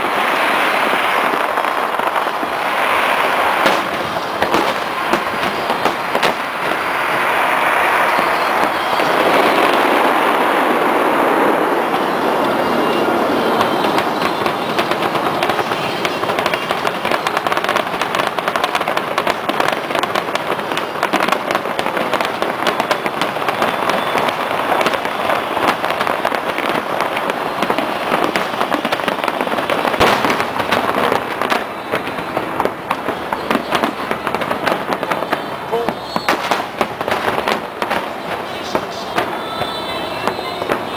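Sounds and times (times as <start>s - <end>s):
fireworks crackling and popping: 0.0s - 40.9s
loud firework bang: 0.0s - 40.9s.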